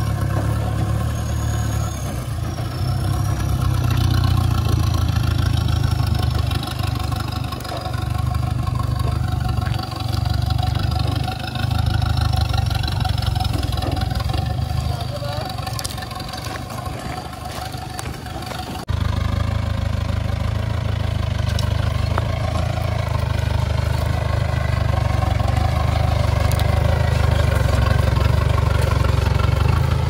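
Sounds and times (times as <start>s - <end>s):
pickup engine running under load: 0.0s - 30.0s
stump dragging through dirt: 0.0s - 30.0s.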